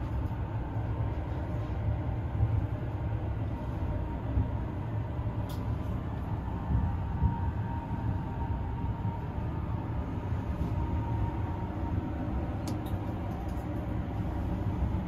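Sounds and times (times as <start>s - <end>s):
faint steady whine: 0.0s - 15.0s
train car rumbling: 0.0s - 15.0s.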